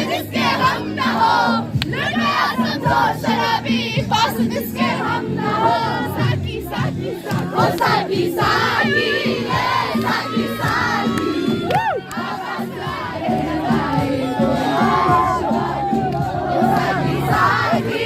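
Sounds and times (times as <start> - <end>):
loud music with steady beat: 0.0 - 5.6, 6.2 - 18.0
crowd shouting and singing: 0.0 - 18.0.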